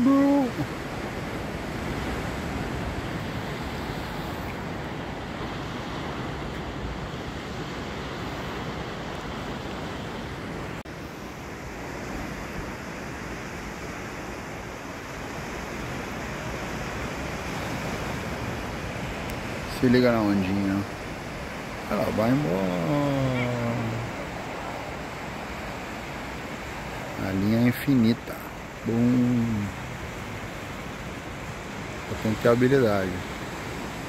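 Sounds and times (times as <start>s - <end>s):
ocean surf breaking: 0.0s - 34.0s.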